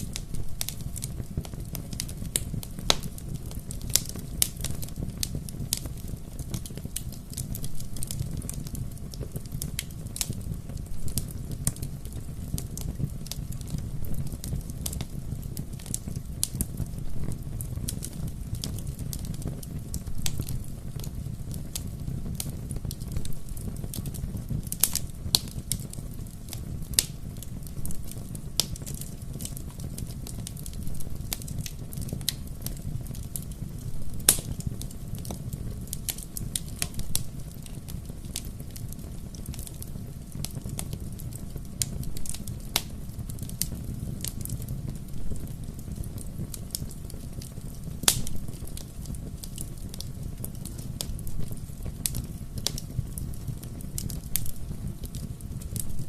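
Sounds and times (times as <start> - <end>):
bonfire crackling: 0.0 - 56.0.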